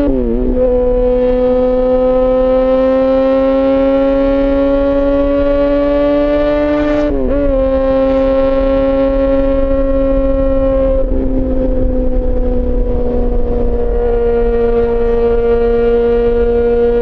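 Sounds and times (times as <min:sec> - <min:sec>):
low wind rumble: 0:00.0 - 0:17.0
motorcycle engine high-pitched note: 0:00.0 - 0:17.0.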